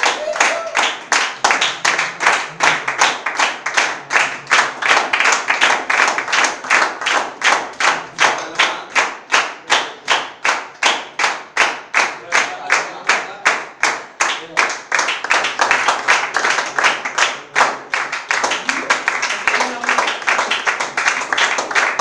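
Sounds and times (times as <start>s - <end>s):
audience clapping in rhythm: 0.0s - 22.0s.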